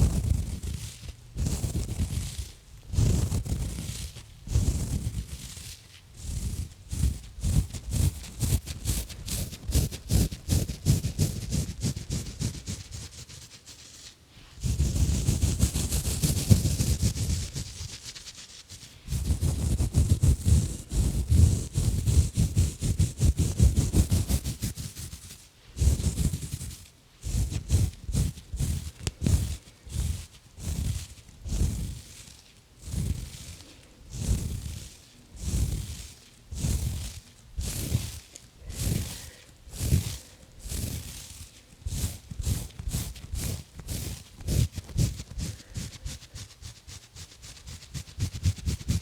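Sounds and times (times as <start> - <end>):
gloves scratching microphone: 0.0 - 5.6, 6.2 - 49.0
gloves rubbing microphone: 0.0 - 49.0.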